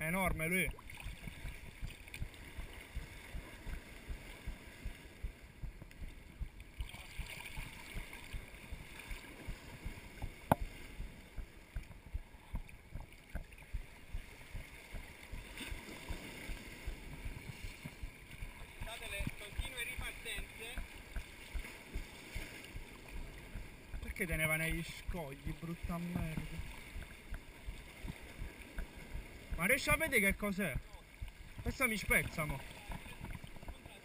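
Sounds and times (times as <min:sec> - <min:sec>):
small waves sloshing: 0:00.0 - 0:34.0.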